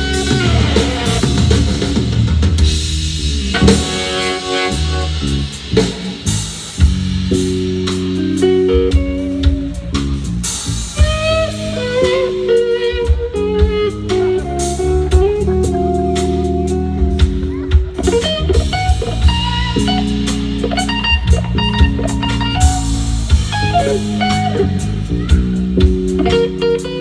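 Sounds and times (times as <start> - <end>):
bass guitar: 0.0 - 27.0
drum kit: 0.0 - 27.0
electric guitar lead: 0.0 - 27.0.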